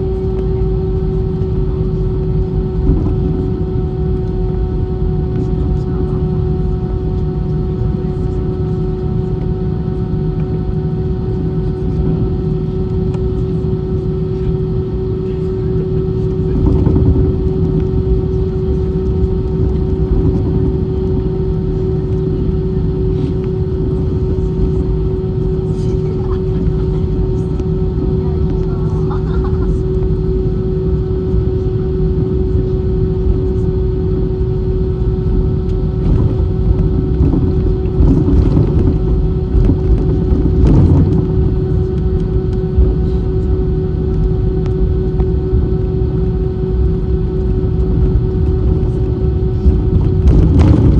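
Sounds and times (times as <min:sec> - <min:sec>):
constant hum: 0:00.0 - 0:50.9
jet engine cabin drone: 0:00.0 - 0:50.9.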